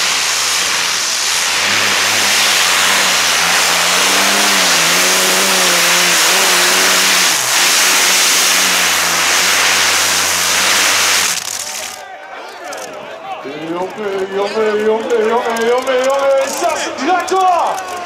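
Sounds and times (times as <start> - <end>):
tractor engines at full throttle: 0.0 - 18.0.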